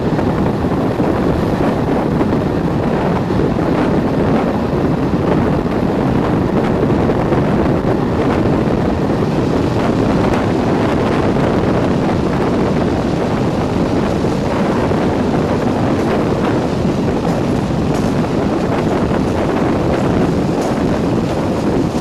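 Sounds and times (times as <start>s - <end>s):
train running at speed: 0.0s - 22.0s
wind buffeting microphone: 0.0s - 22.0s.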